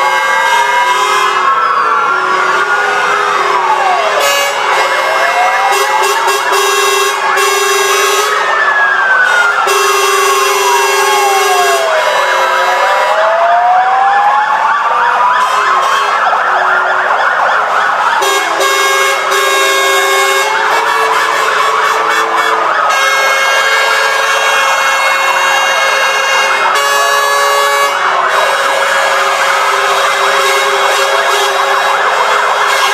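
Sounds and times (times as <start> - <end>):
fire engine sirens wailing: 0.0 - 32.9.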